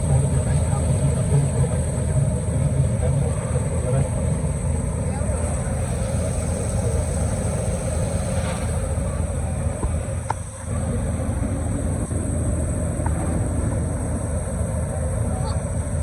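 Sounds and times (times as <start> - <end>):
boat engine low rumble: 0.0 - 16.0.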